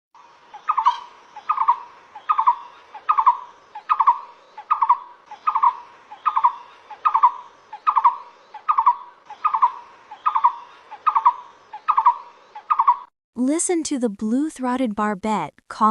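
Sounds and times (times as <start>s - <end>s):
barbet calling: 0.2s - 13.1s.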